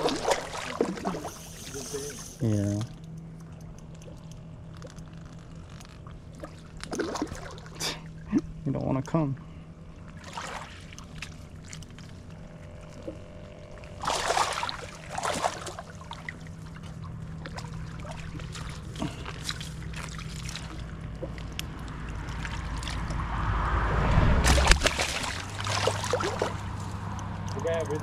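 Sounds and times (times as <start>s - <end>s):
water splashing and sloshing: 0.0s - 2.4s, 3.4s - 28.0s
steady low hum: 0.0s - 28.0s.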